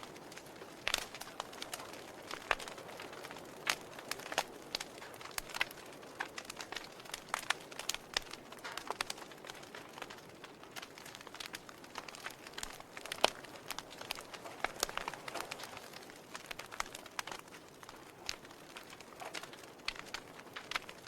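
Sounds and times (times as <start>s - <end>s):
sharp pops and snaps: 0.0s - 21.0s
wood fire crackling: 0.0s - 21.0s.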